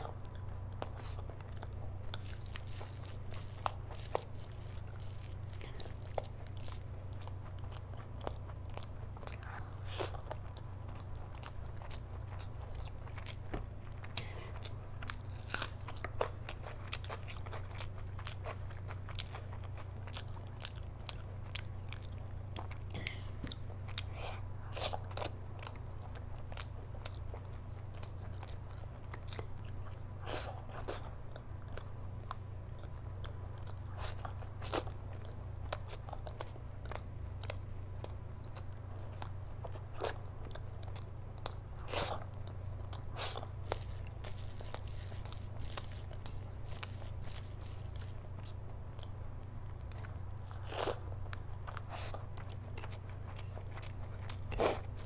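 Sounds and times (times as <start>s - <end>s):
chewing food with mouth clicks: 0.0s - 55.0s.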